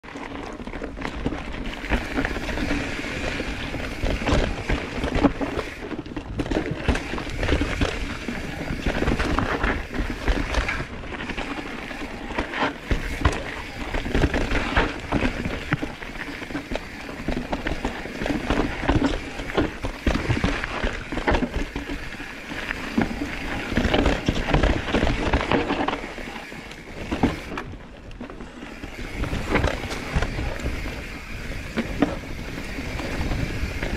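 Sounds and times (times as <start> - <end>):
bike rattling and knocking: 0.0 - 33.9
bike tyres crunching over rocks: 0.0 - 33.9.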